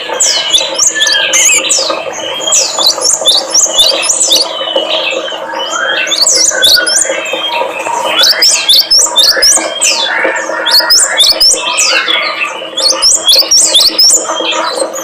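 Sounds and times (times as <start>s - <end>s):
songbirds chirping and twittering: 0.0s - 15.0s.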